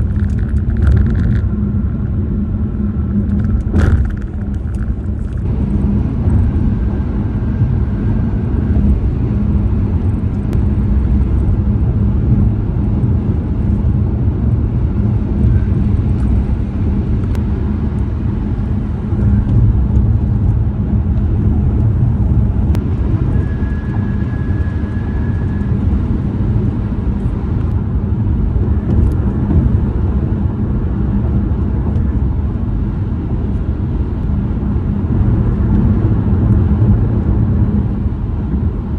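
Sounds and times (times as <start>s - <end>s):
tire and road noise: 0.0s - 38.9s.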